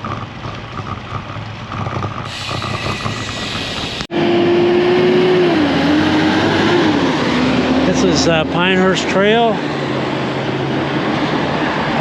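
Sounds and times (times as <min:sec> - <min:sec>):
motor vehicle hum: 0:00.0 - 0:12.0.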